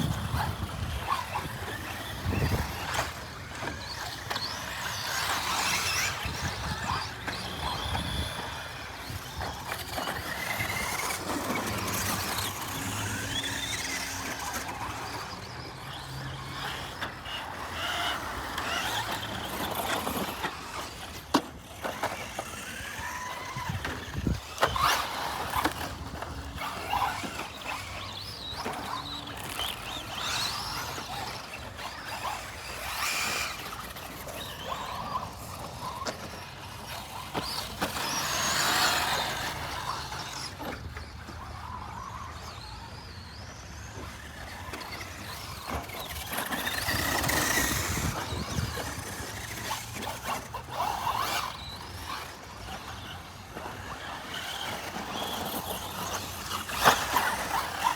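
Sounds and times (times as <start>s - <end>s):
radio-controlled car motors whining: 0.0s - 57.9s.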